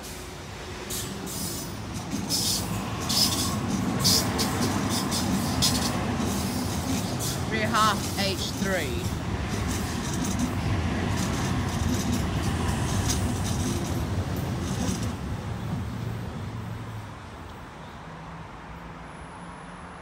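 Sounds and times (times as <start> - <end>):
train wheels rumbling on rail: 0.0 - 17.6.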